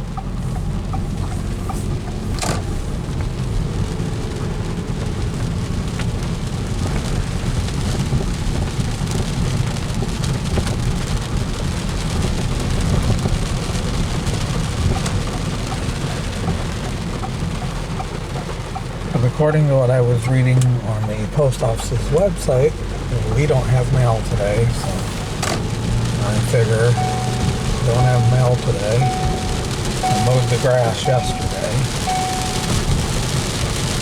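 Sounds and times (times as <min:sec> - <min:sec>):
car cabin road rumble: 0:00.0 - 0:34.0
tyres hissing on wet road: 0:00.0 - 0:34.0.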